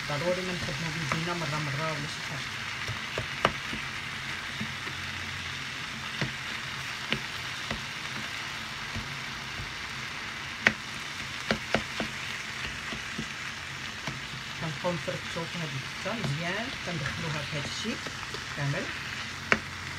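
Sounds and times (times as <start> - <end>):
meat and vegetables sizzling in pan: 0.0 - 19.9.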